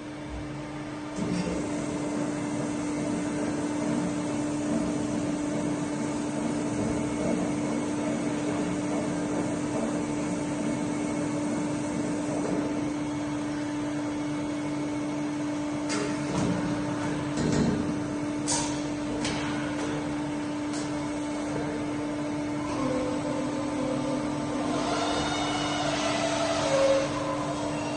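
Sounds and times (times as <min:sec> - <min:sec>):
milling machine humming: 0:00.0 - 0:27.9.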